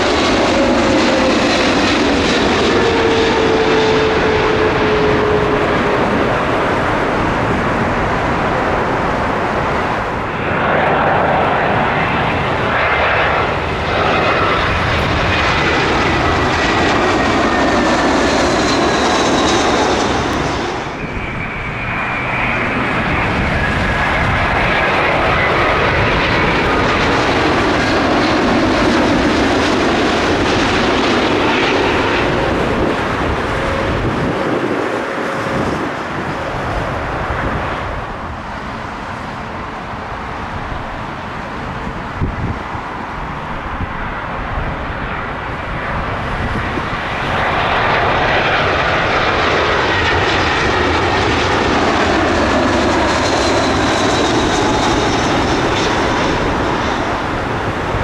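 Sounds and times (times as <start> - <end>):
jet airliners passing overhead: 0.0 - 58.0.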